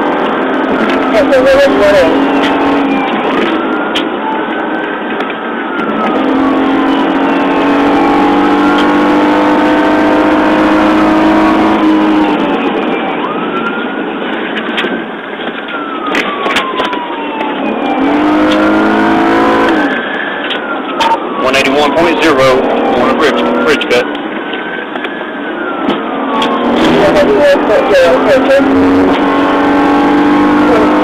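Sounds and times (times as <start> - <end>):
car engine: 0.0 - 31.0
police siren wailing: 0.0 - 31.0
road noise: 0.0 - 31.0.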